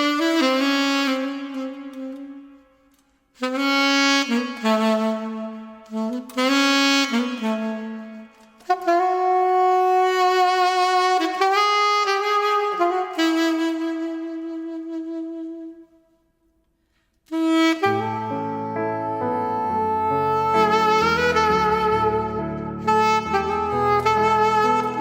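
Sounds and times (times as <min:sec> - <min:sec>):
solo saxophone: 0:00.0 - 0:25.0.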